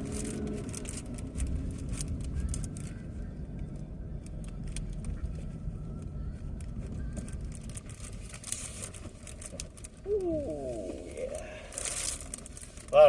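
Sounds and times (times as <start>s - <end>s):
car cabin road rumble: 0.0s - 13.0s
faint clicks and rustles: 0.0s - 13.0s.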